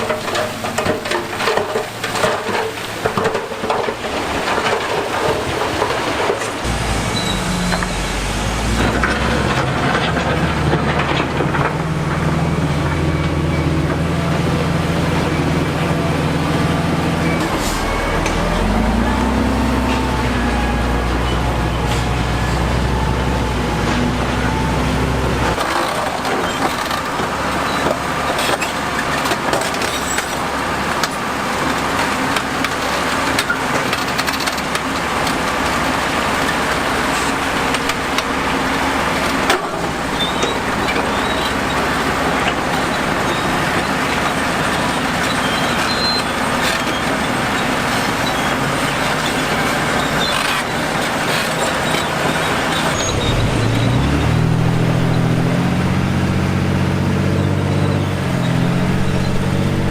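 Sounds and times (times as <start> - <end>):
machinery engine hum: 0.0 - 59.9.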